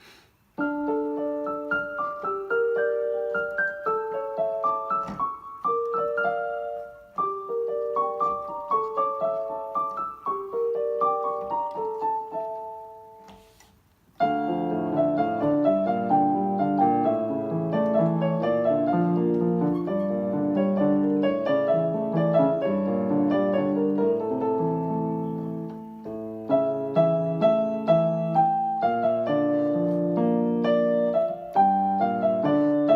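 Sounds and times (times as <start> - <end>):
piano music: 0.6 - 13.5, 14.2 - 32.9.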